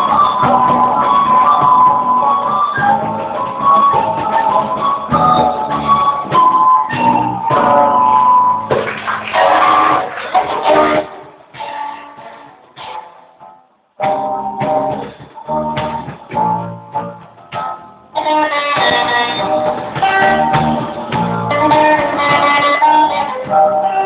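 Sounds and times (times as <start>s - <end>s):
guitar strummed chords: 0.0s - 24.0s.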